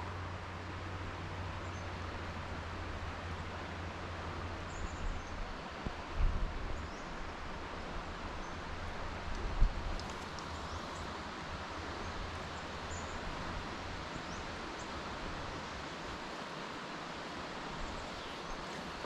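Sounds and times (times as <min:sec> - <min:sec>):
river water rushing: 0:00.1 - 0:19.0.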